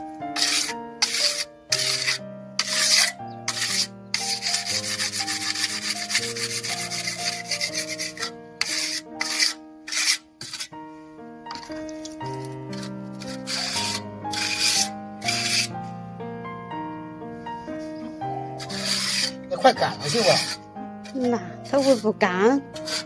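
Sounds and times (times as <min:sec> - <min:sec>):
trowel scraping wet cement: 0:00.0 - 0:10.8, 0:11.5 - 0:15.8, 0:18.6 - 0:23.0
background music: 0:00.0 - 0:23.0.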